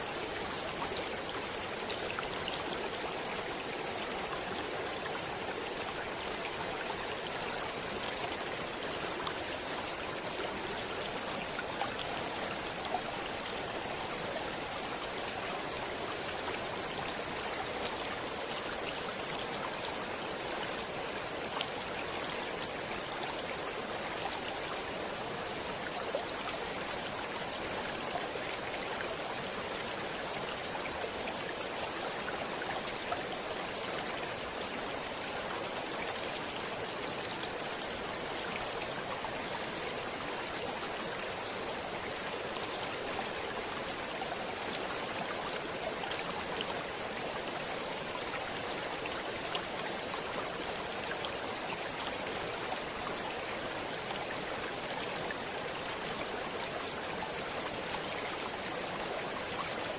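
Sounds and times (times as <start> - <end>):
stream water running and splashing: 0.0 - 59.9.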